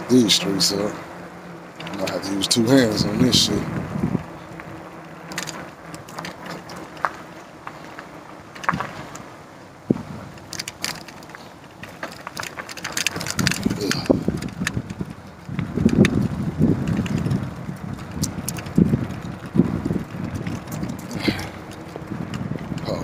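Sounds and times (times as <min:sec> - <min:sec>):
bicycle rattling on rough pavement: 0:00.0 - 0:23.0
wind on microphone: 0:01.6 - 0:23.0.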